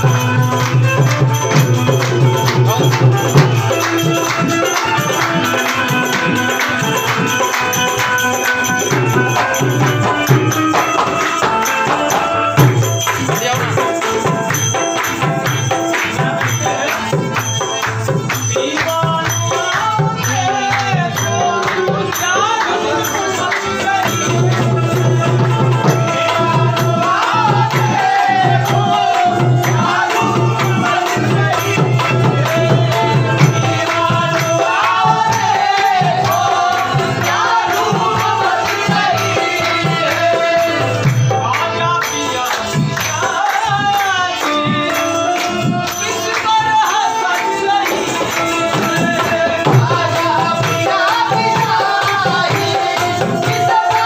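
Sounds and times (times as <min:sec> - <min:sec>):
harmonium: 0:00.0 - 0:54.0
jingling hand percussion: 0:00.0 - 0:54.0
person singing: 0:00.0 - 0:54.0
tabla: 0:00.0 - 0:54.0.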